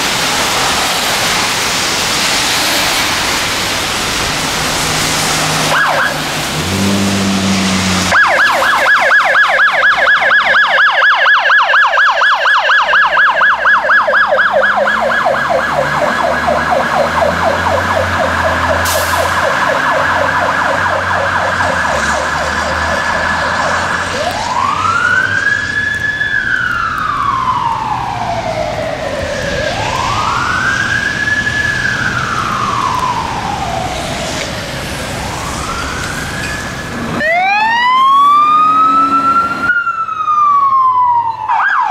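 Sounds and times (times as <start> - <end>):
truck engine rumbling: 0.0 - 10.3, 13.5 - 40.8
electronic siren yelp and wail: 5.6 - 6.5, 7.5 - 41.9.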